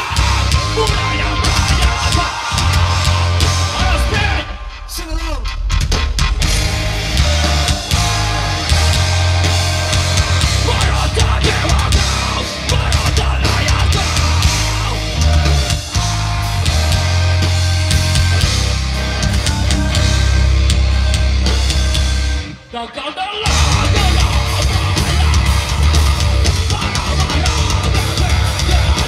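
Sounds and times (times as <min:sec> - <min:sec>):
pounding drum kit: 0:00.0 - 0:22.6, 0:23.4 - 0:29.0
heavy bass line: 0:00.0 - 0:22.7, 0:23.5 - 0:29.0
distorted electric guitars: 0:00.0 - 0:29.0.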